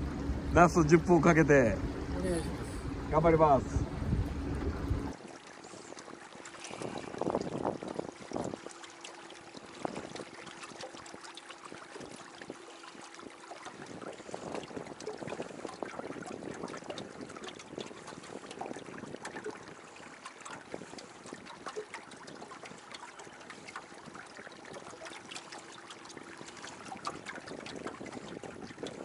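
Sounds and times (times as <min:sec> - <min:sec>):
water lapping against boat hull: 0:00.0 - 0:29.0.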